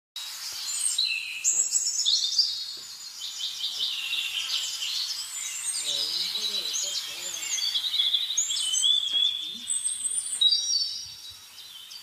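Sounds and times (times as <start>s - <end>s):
birds singing and chirping: 0.4s - 12.0s.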